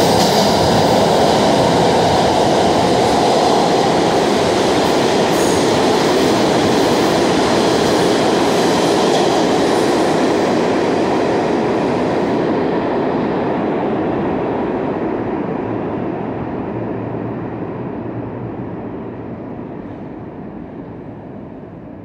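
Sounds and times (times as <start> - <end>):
subway train rumble and wheel noise: 0.0 - 22.0.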